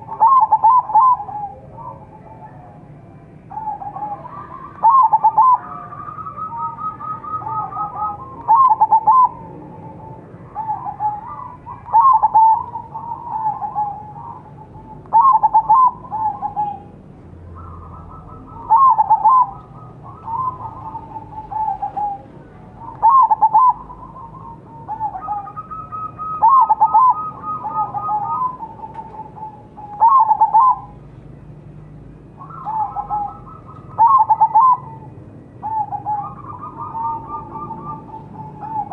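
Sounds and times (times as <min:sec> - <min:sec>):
dove cooing: 0:00.0 - 0:31.1, 0:32.3 - 0:38.9.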